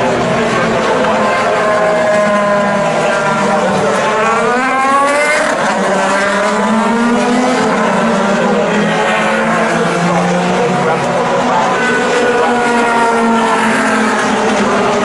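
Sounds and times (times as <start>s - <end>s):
engine accelerating: 0.0s - 15.0s
race car engines running: 0.0s - 15.0s.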